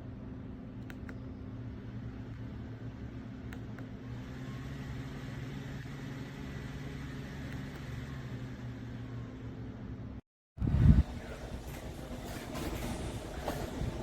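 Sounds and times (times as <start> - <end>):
mini fan running: 0.6 - 9.9, 10.6 - 14.0.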